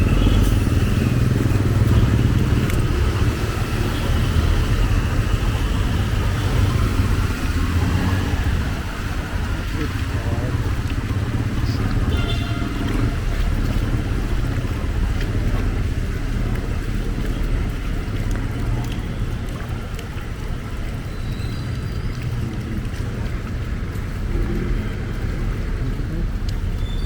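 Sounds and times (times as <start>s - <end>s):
traffic rumble: 0.0s - 27.0s.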